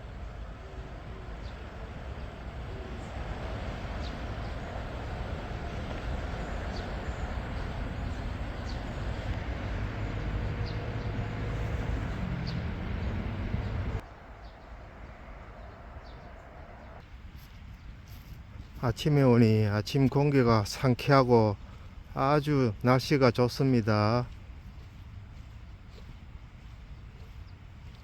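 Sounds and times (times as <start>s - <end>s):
low rumble of vehicle noise: 0.0s - 28.0s.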